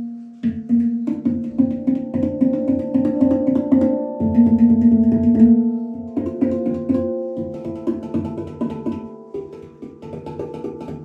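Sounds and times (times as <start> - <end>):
handpan notes ringing: 0.0 - 11.0.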